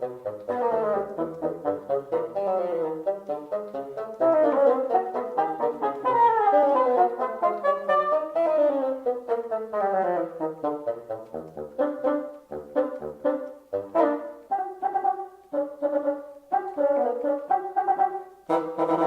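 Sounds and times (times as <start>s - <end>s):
brass instrument music: 0.0s - 19.0s.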